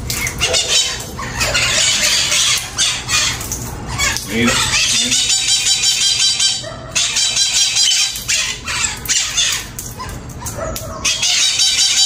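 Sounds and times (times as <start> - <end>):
parakeets squawking and chattering: 0.0 - 12.0.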